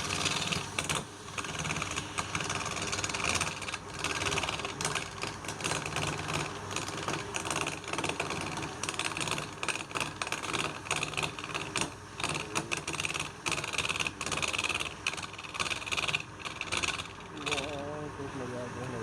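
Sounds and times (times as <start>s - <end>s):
wood lathe cutting tool scraping: 0.0s - 18.0s.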